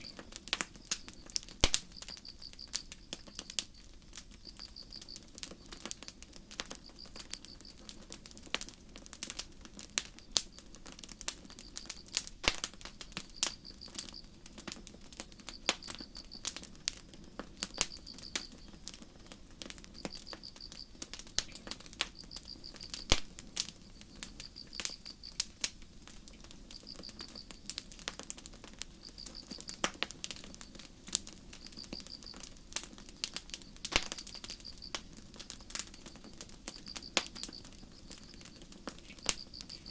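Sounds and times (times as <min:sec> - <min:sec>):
crickets chirping: 0:00.0 - 0:08.0, 0:11.4 - 0:14.6, 0:15.3 - 0:39.9
campfire crackling and popping: 0:00.0 - 0:39.9.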